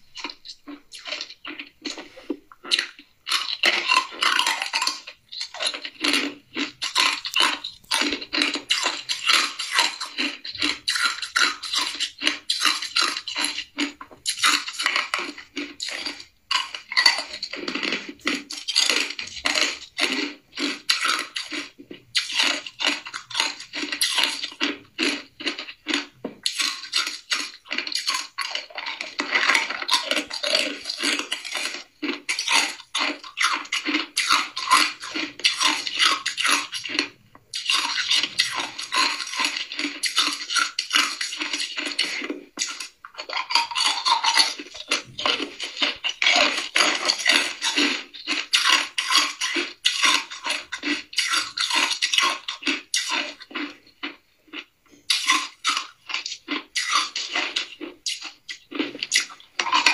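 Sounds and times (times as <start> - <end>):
ice crunching being chewed: 0.0 - 59.9.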